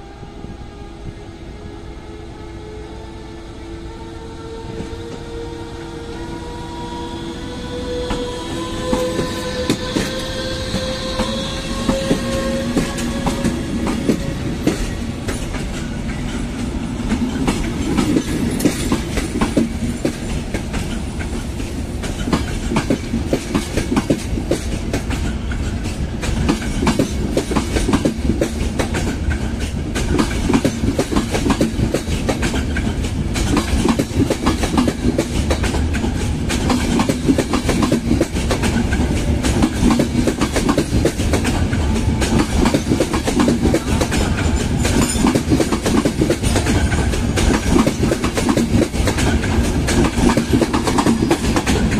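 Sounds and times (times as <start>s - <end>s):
low train rumble: 0.0s - 51.9s
train wheels clicking over rail joints: 7.7s - 51.9s.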